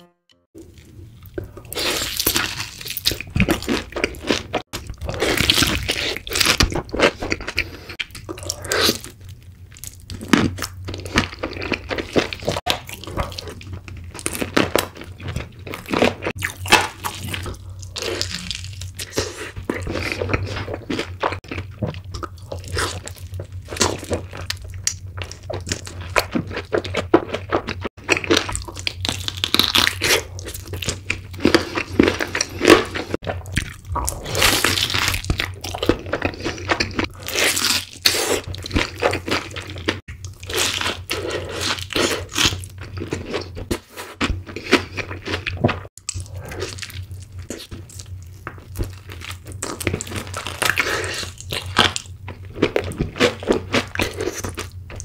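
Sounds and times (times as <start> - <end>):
crunching and chewing: 0.6 - 55.0.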